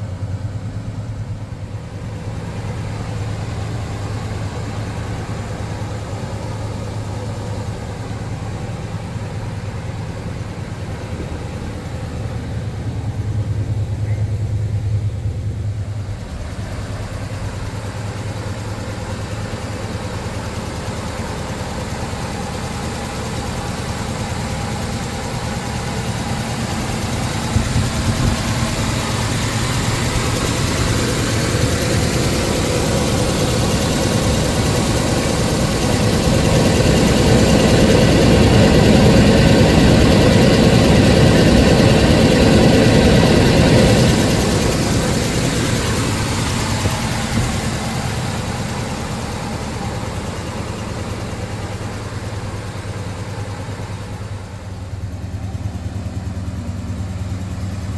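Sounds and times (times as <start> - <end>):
car engine running: 0.0 - 57.9.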